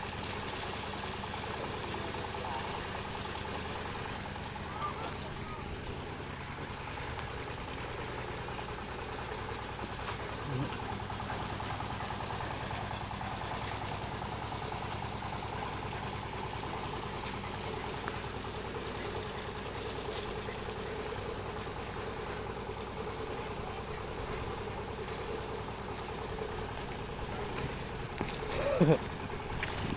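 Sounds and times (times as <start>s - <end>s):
truck engine droning: 0.0s - 29.9s.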